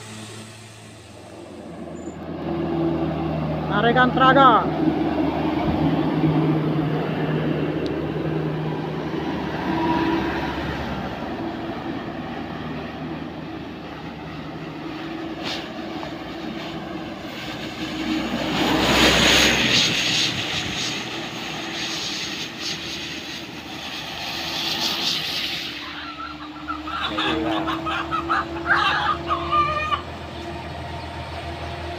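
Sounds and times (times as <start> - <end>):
diesel truck engine under load: 0.0 - 31.9
truck passing on wet road: 0.0 - 31.9.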